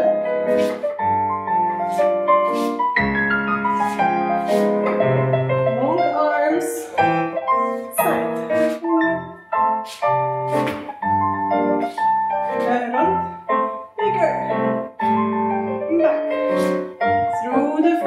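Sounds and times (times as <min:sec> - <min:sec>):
piano playing notes and chords: 0:00.0 - 0:18.0.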